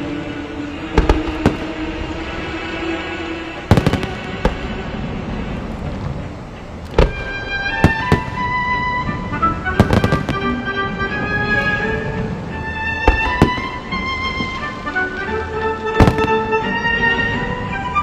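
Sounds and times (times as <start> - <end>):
fireworks bangs: 0.0 - 17.7
symphonic rock music: 0.0 - 18.0.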